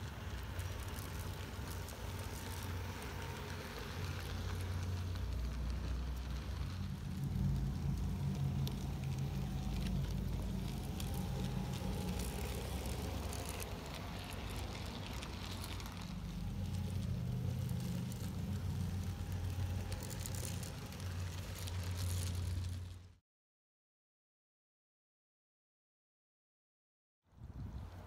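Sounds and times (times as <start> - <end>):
model train rumbling on track: 0.0 - 23.1.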